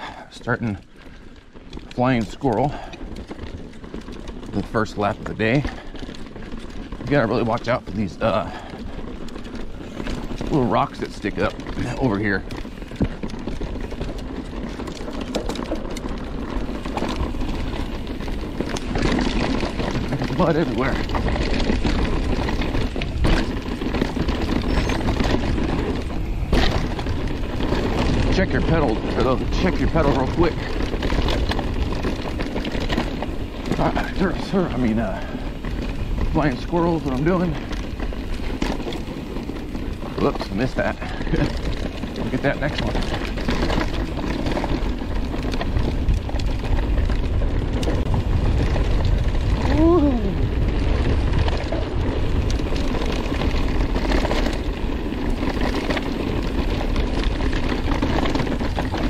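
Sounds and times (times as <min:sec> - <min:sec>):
bike rattling over rocks: 0:00.0 - 0:59.0
tyre and trail noise: 0:00.0 - 0:59.0
wind rumble on microphone: 0:00.0 - 0:59.0.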